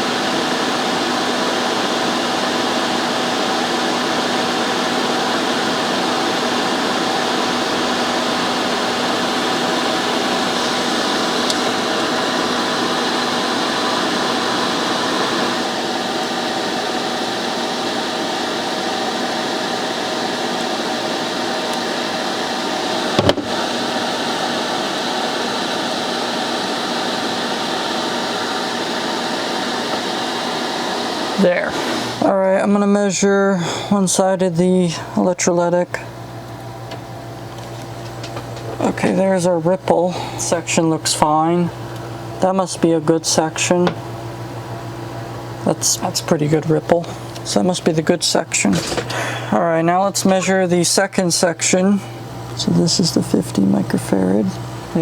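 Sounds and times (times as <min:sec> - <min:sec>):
space heater fan humming: 0:00.0 - 0:55.0.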